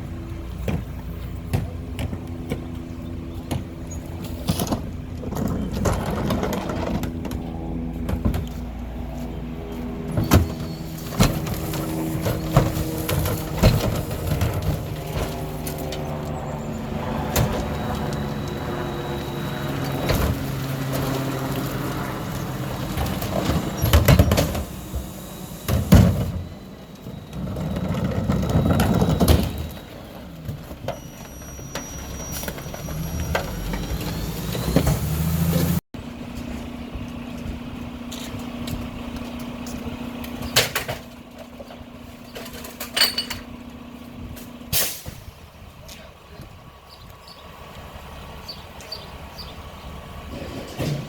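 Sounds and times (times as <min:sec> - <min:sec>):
garbage truck engine running: 0:00.0 - 0:51.0.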